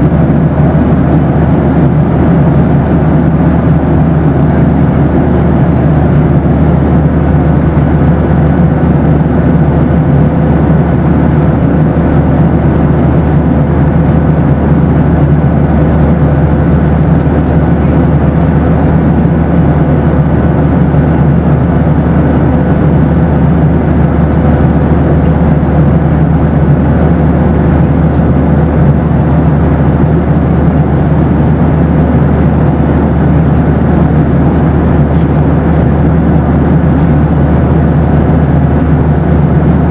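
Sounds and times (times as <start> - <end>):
aircraft cabin engine roar: 0.0 - 39.9
faint steady whine: 0.0 - 39.9.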